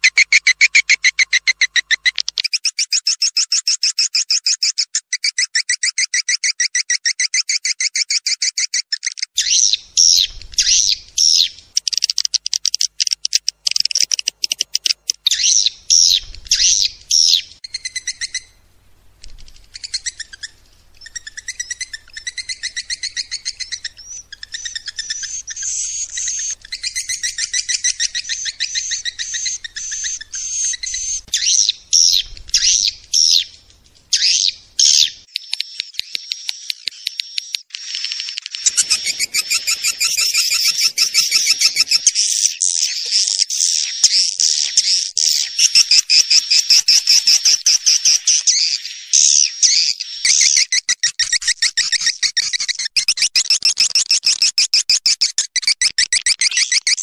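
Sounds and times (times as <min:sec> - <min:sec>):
bird chittering trills: 0:00.0 - 0:18.6, 0:19.5 - 0:57.0.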